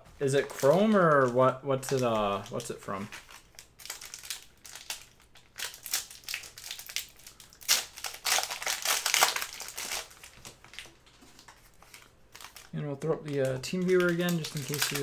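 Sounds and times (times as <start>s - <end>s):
cellophane wrapper crinkling: 0.2s - 15.0s.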